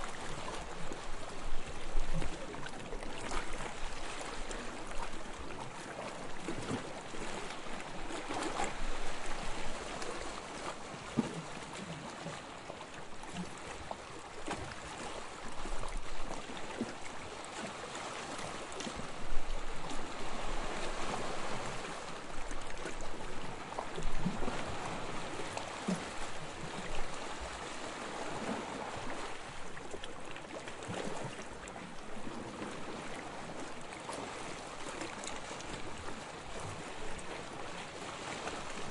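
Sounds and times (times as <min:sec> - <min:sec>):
waves lapping on sandy shore: 0:00.0 - 0:38.9.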